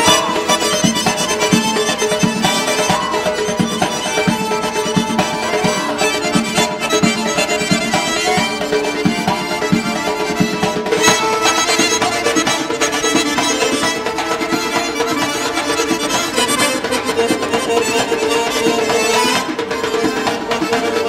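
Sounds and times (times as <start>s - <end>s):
instrumental folk dance music: 0.0s - 21.0s.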